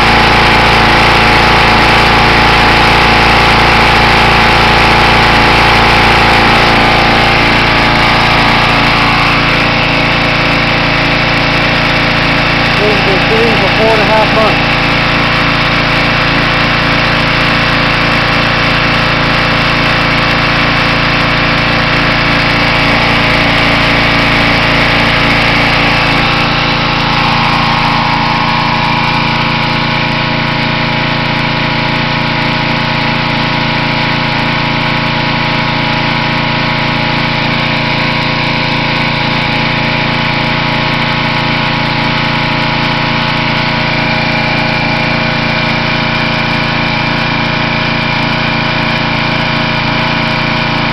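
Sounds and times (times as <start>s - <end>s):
pressure washer engine running: 0.0s - 50.9s.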